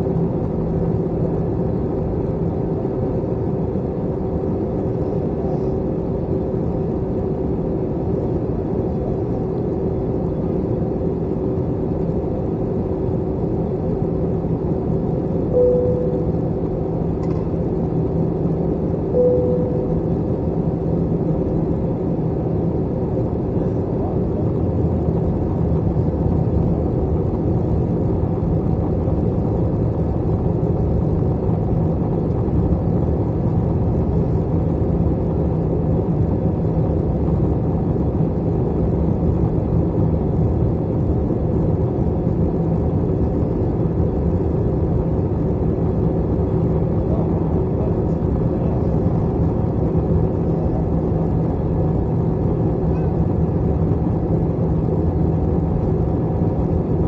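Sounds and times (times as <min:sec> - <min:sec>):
airliner cabin noise: 0:00.0 - 0:57.0
constant low hum: 0:00.0 - 0:57.0.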